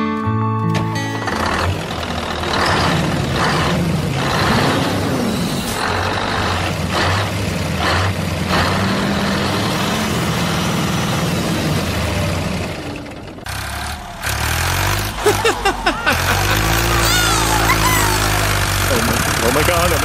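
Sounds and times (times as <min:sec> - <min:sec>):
heavy truck engine running: 0:00.6 - 0:20.0.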